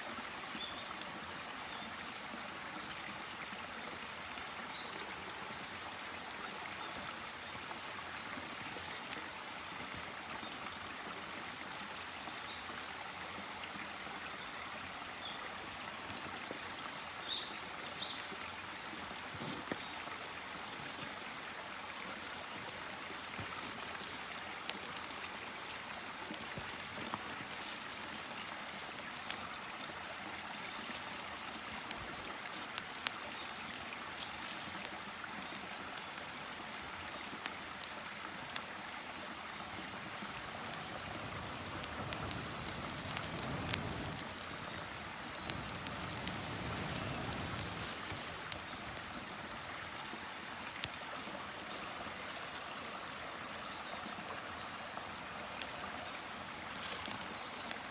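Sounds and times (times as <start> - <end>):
running water: 0.0 - 57.9.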